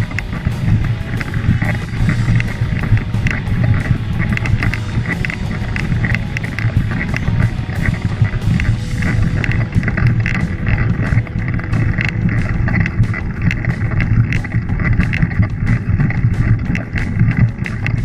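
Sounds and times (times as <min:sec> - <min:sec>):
bike rattling over stones: 0:00.0 - 0:18.0
bike tyres rumbling on dirt: 0:00.0 - 0:18.0.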